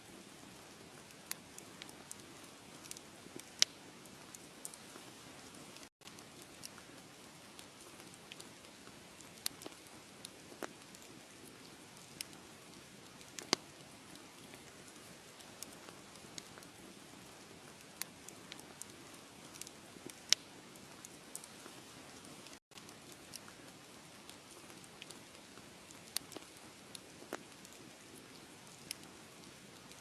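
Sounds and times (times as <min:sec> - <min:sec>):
wood fire crackling: 0:00.1 - 0:30.0.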